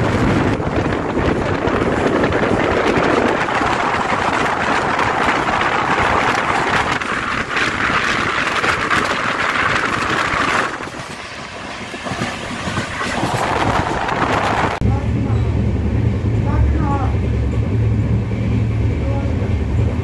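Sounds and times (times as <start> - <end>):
train running at speed: 0.0 - 20.0.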